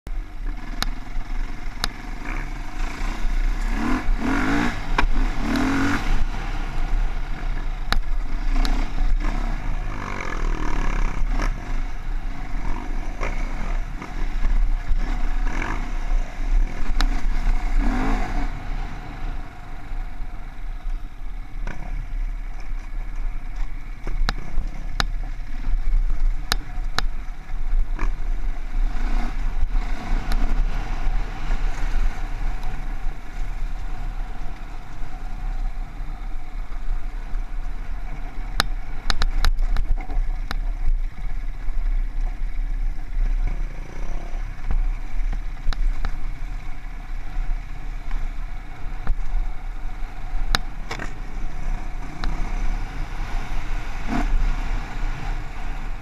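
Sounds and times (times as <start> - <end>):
dirt bike engine revving: 0.2 - 39.5, 43.1 - 56.0.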